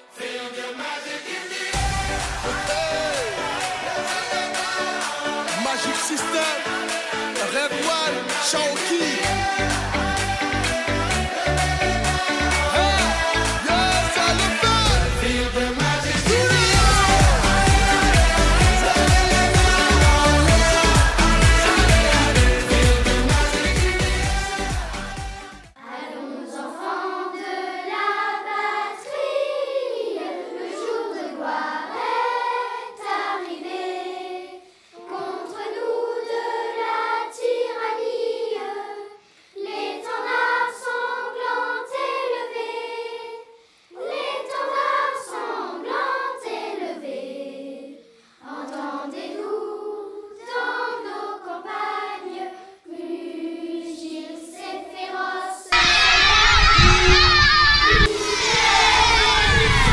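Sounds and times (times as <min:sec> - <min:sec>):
children's choir singing: 0:00.0 - 0:59.9.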